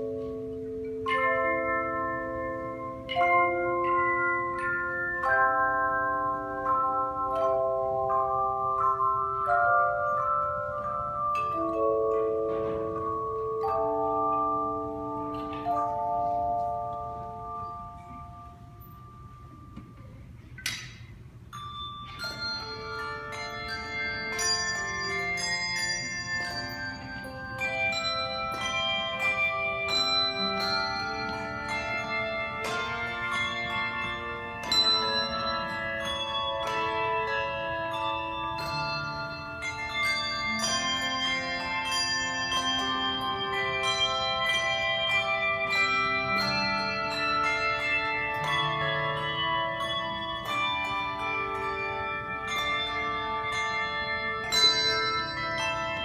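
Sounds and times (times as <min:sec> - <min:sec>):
handbell choir playing: 0:00.0 - 0:56.0.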